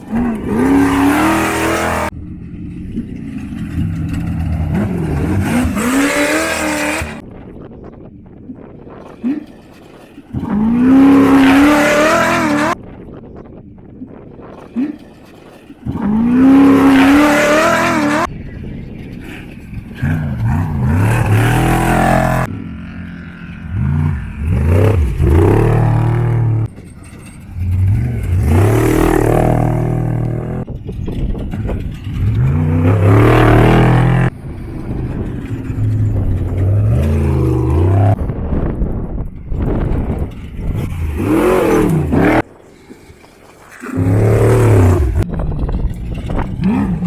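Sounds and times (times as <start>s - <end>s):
off-road vehicles revving: 0.0s - 7.3s, 9.0s - 12.8s, 14.6s - 30.8s, 31.4s - 38.5s, 39.6s - 42.6s, 43.6s - 47.0s.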